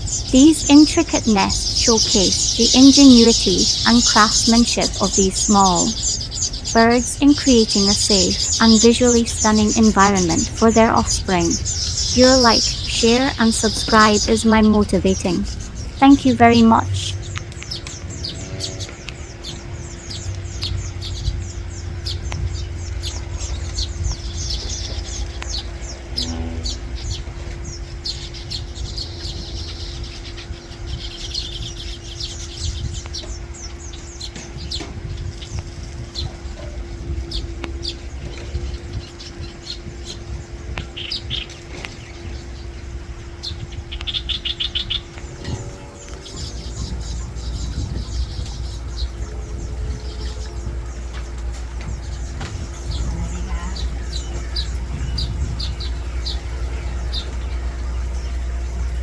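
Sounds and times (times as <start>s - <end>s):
birds chirping and trilling: 0.0s - 59.0s
low hum and rumble: 0.0s - 59.0s.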